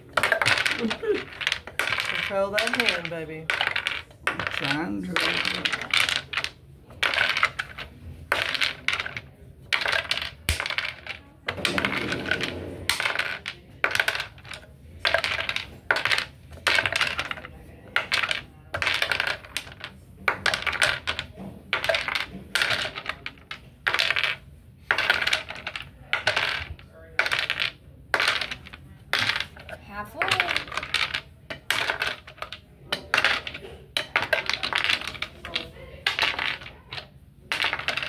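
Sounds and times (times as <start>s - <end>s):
wooden cubes clattering: 0.0s - 38.0s.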